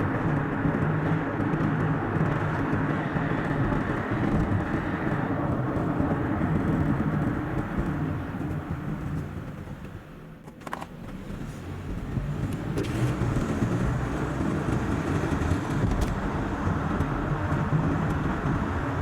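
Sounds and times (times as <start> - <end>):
car tyre and engine rumble: 0.0 - 19.0.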